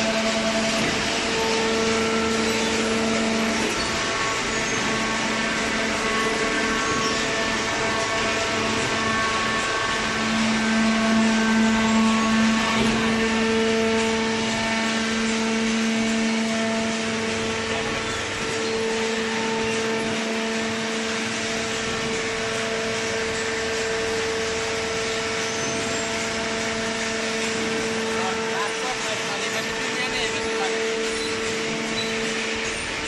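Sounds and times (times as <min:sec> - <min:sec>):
baler machine humming: 0:00.0 - 0:33.0.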